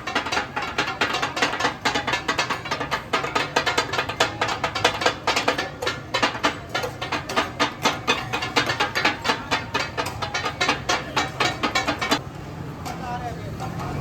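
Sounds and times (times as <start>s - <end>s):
metal spatulas clattering on griddle: 0.0s - 12.2s.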